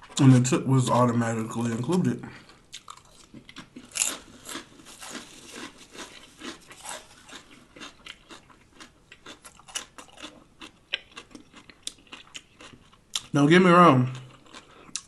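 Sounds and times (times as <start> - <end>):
crunchy food chewing: 2.3 - 15.0.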